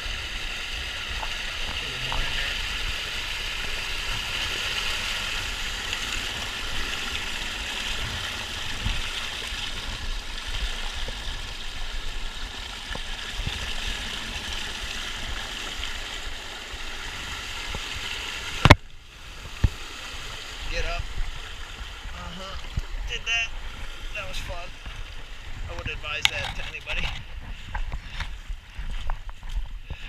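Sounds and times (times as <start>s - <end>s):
water pouring over waterfall: 0.0s - 26.9s.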